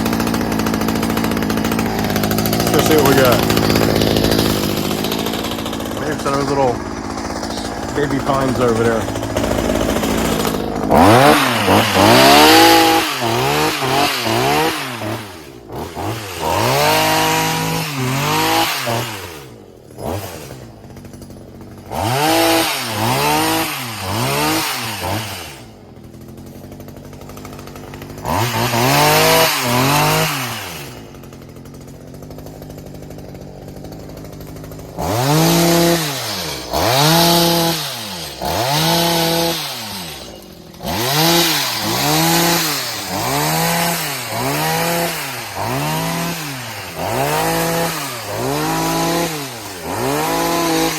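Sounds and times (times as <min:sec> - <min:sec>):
hedge trimmer engine revving: 0:00.0 - 0:50.9.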